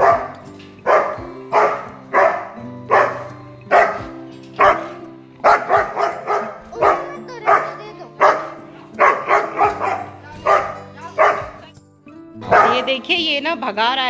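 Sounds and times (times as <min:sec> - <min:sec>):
dog barking loudly: 0:00.0 - 0:11.6, 0:12.4 - 0:13.0.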